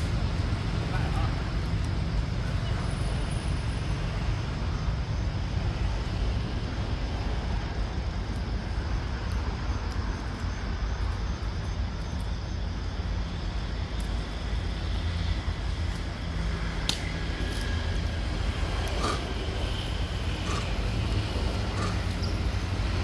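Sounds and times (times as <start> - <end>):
low rumbling background noise: 0.0 - 23.0.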